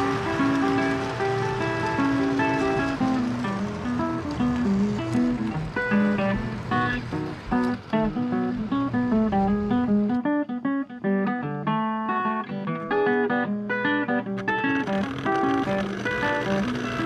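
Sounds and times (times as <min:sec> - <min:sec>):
acoustic guitar picking melody: 0:00.0 - 0:17.0.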